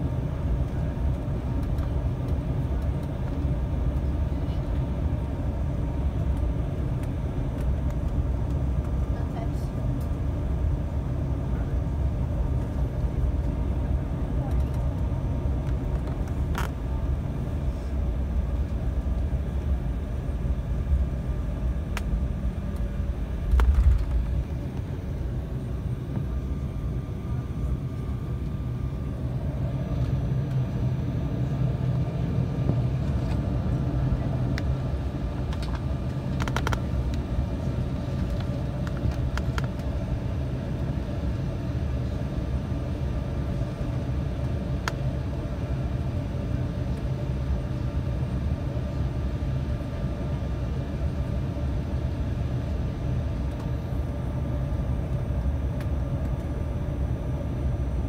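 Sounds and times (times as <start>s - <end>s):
jet engine rumble and hum: 0.0s - 58.0s.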